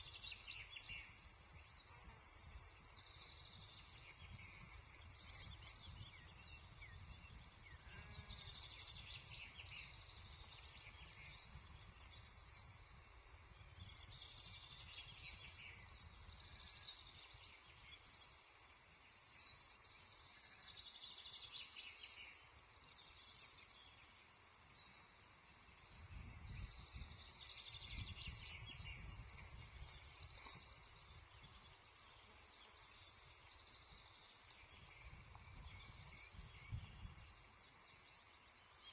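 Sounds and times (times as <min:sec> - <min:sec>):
small birds singing and trilling: 0:00.0 - 0:38.9.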